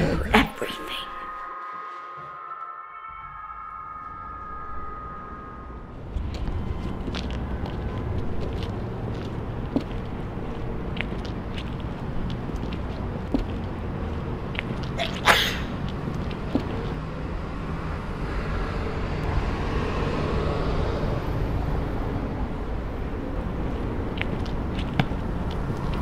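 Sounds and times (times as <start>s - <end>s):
vehicle passing: 3.4s - 26.0s
low traffic rumble: 3.7s - 26.0s.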